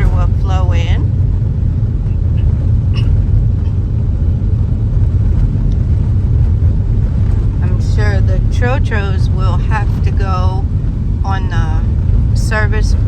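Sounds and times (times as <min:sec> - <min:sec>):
car driving on road: 0:00.0 - 0:13.0.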